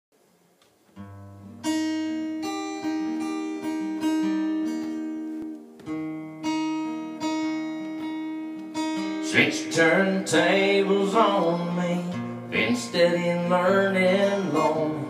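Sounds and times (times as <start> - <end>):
acoustic guitar chords: 0.9 - 15.0.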